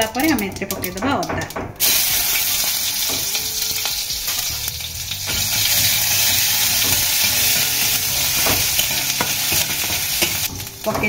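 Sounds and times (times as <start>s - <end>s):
metal spatula scraping pan: 1.8s - 10.7s
ginger sizzling in hot oil: 1.8s - 11.0s.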